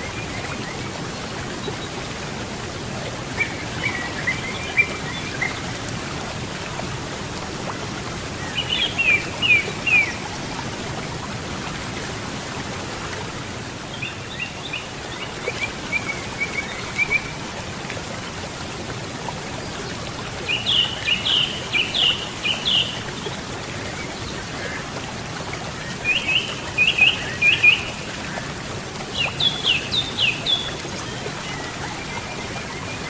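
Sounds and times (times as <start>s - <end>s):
river water running: 0.0s - 33.0s.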